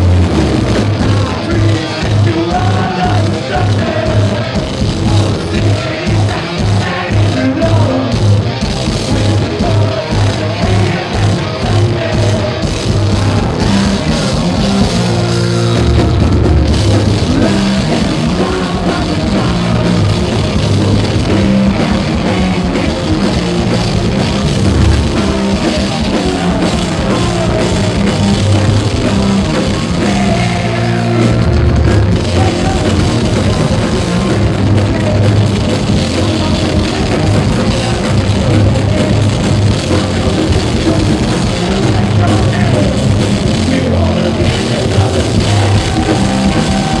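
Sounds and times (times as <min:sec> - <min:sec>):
drum kit pounding: 0:00.0 - 0:47.0
live metal band playing: 0:00.0 - 0:47.0
person singing into microphone: 0:00.8 - 0:16.4, 0:17.2 - 0:47.0.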